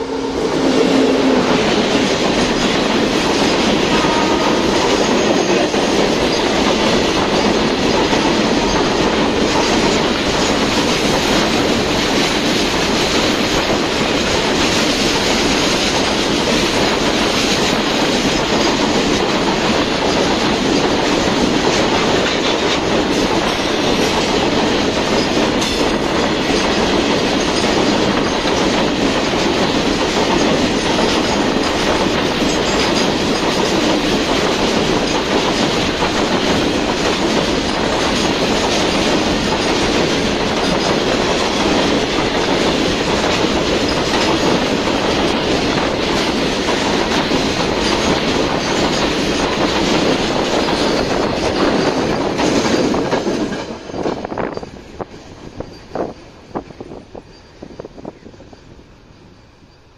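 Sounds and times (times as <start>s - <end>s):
train wheels clattering over rail joints: 0.0s - 58.6s.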